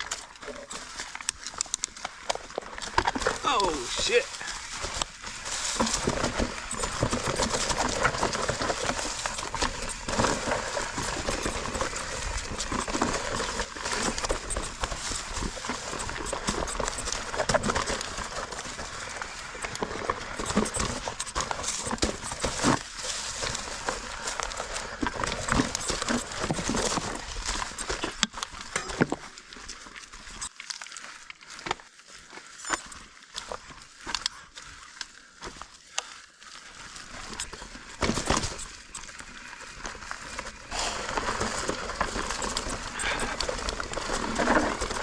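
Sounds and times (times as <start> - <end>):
bike rattling: 0.0 - 45.0
tyres crunching over rocks: 0.0 - 45.0.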